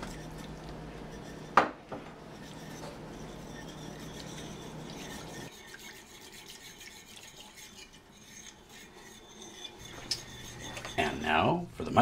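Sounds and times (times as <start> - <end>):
whisk scraping in a pan: 0.0 - 12.0.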